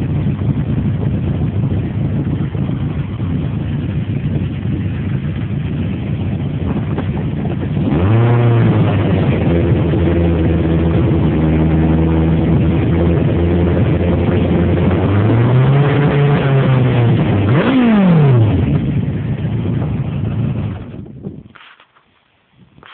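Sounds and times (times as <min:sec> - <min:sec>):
motorcycle engine revving: 0:00.0 - 0:21.5
wind noise on microphone: 0:00.0 - 0:22.9.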